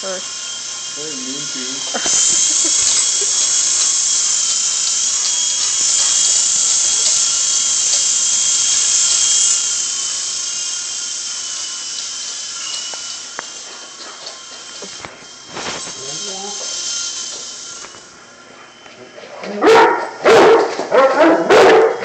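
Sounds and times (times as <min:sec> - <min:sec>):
toy helicopter rotors whining: 0:00.0 - 0:21.9.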